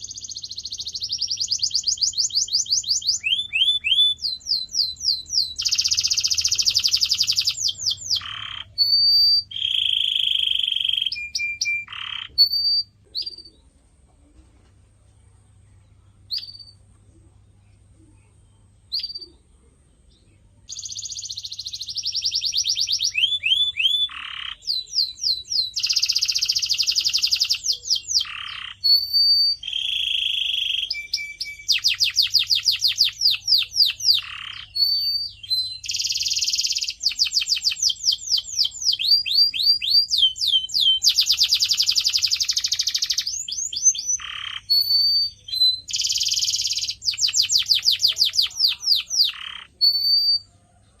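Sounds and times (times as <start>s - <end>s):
canary singing trills: 0.0s - 13.8s, 15.8s - 51.0s.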